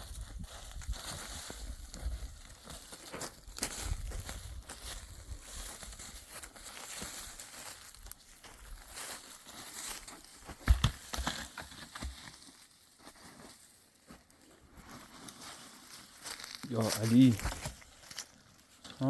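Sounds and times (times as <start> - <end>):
twigs crackling and rustling: 0.0 - 19.0.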